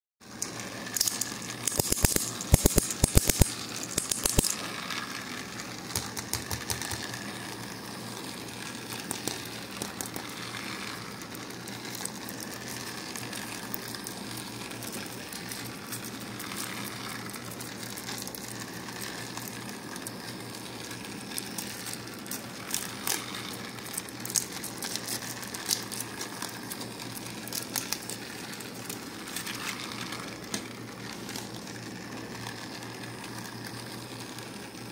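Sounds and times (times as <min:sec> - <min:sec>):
foil wrapper crinkling: 0:00.3 - 0:34.9.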